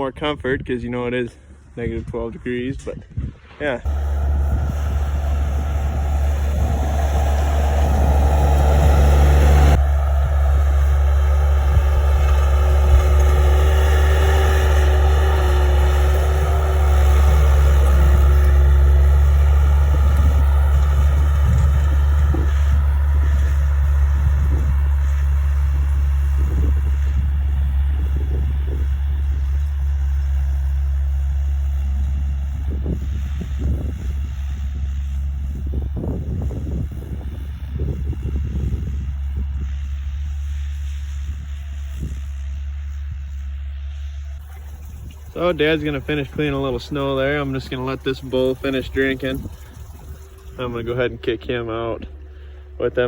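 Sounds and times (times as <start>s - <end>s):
skid steer engine rumbling: 3.8s - 53.0s.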